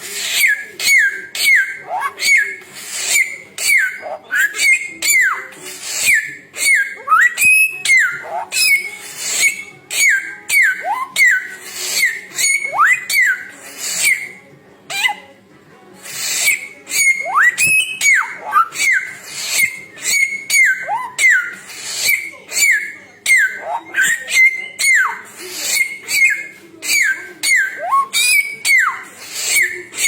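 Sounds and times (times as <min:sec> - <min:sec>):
songbird whistling: 0:00.1 - 0:15.2, 0:16.0 - 0:30.0.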